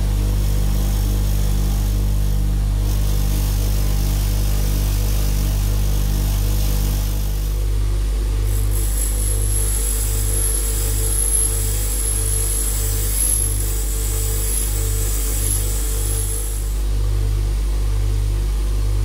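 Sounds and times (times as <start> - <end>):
bench buffer motor humming: 0.0 - 19.0.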